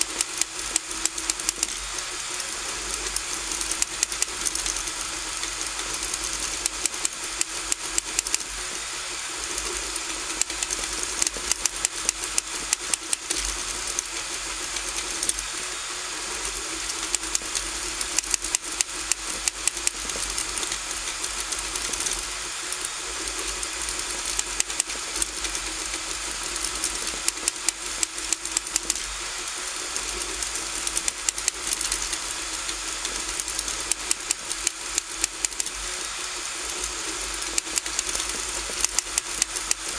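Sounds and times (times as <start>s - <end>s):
printer motors and fan whirring: 0.0s - 39.9s
sharp rapid clicks: 0.0s - 39.9s.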